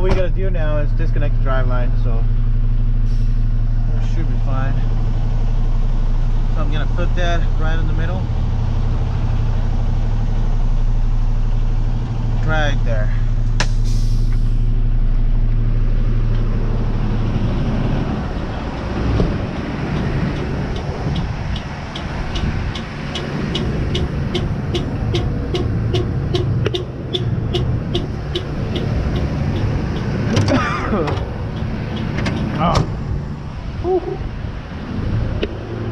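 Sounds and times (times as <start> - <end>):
truck engine idling: 0.4 - 34.8.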